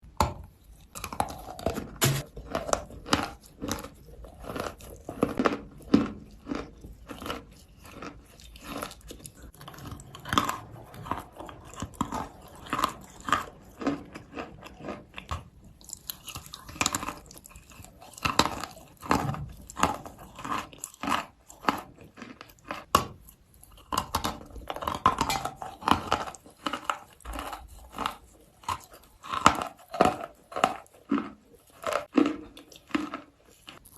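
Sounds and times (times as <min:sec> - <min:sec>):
chalk being chewed: 0:00.5 - 0:33.9.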